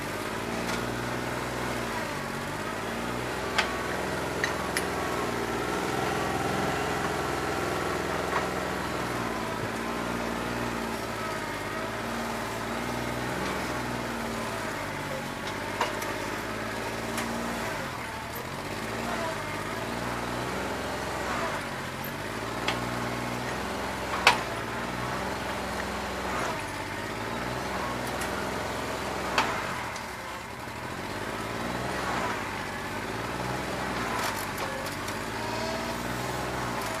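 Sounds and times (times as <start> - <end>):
tractor diesel engine running rough: 0.0 - 37.0.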